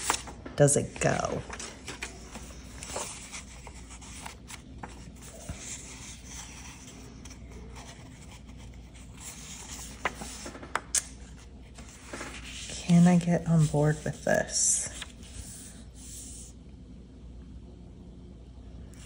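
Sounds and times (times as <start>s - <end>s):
paper and card rustling: 0.0s - 16.5s.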